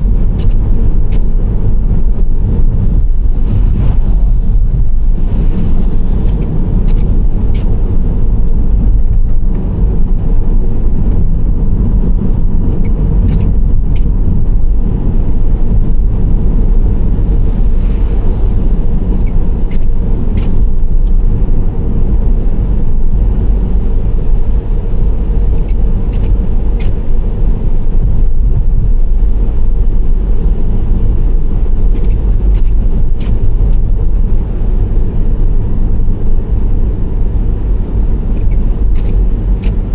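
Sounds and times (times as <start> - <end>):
minivan road rumble: 0.0 - 39.9.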